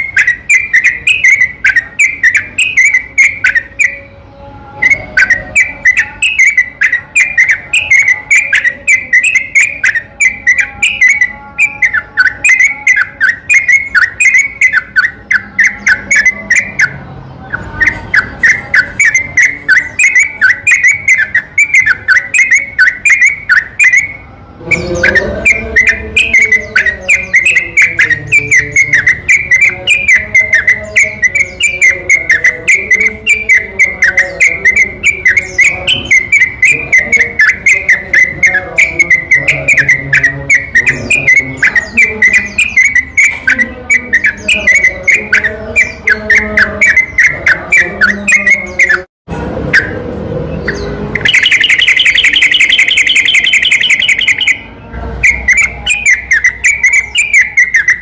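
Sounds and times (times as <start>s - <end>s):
bird whistled song: 0.0s - 49.1s, 50.6s - 58.0s.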